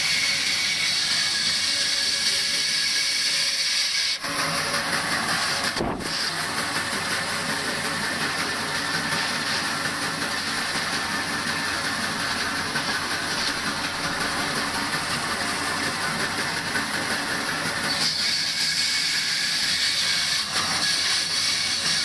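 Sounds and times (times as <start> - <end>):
band saw cutting cardboard: 0.0 - 22.0.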